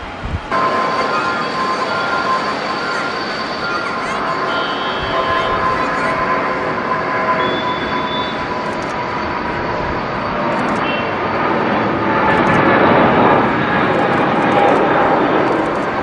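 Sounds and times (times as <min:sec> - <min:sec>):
jet engine whine: 0:00.0 - 0:16.0
jet engines rumbling: 0:00.0 - 0:16.0.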